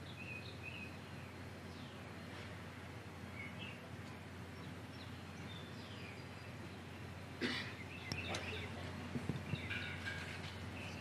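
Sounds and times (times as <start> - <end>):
bird chirps: 0.0 - 2.5, 3.3 - 3.9, 4.5 - 11.0
steady low hum: 0.0 - 11.0.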